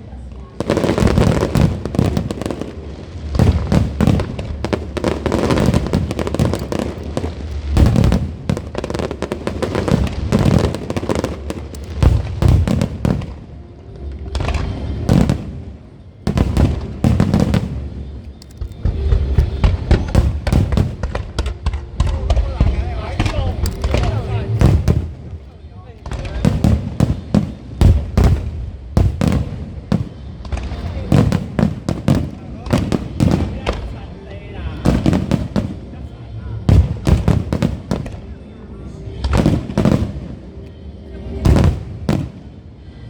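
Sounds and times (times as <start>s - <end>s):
fireworks bursts and crackling: 0.0s - 43.0s
deep firework booms: 0.6s - 13.5s, 14.3s - 18.0s, 18.7s - 25.4s, 26.1s - 34.0s, 34.8s - 35.8s, 36.6s - 38.3s, 41.4s - 42.5s.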